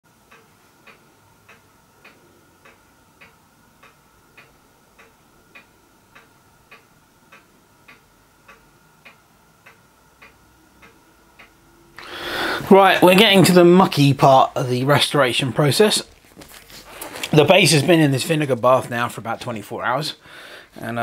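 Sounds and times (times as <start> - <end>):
faint clock ticking: 0.1 - 16.2, 16.9 - 21.0
faint steady hum: 0.1 - 21.0.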